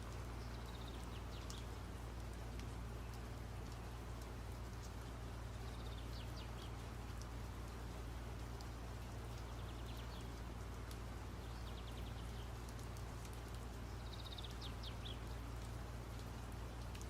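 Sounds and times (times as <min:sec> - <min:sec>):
light ticks: 0:00.0 - 0:17.0
low steady hum: 0:00.0 - 0:17.0.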